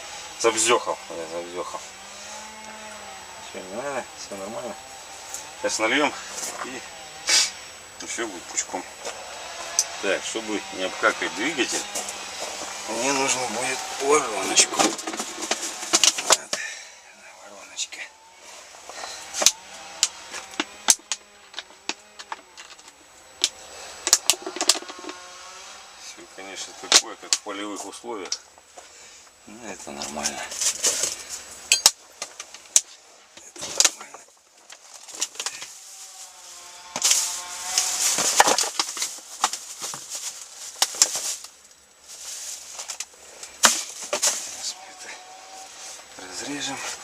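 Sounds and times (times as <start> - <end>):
rustling: 1.6 - 47.0.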